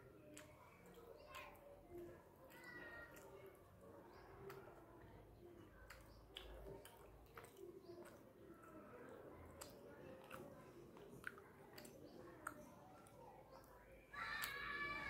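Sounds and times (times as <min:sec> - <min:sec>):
fingers squishing food: 0:00.0 - 0:15.0
chewing with wet mouth clicks: 0:00.1 - 0:14.6.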